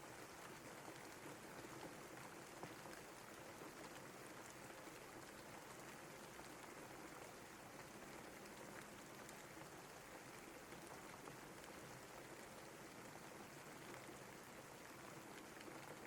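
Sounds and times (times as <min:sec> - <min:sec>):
faint rain falling: 0:00.0 - 0:16.0
small raindrop ticks: 0:00.0 - 0:16.0.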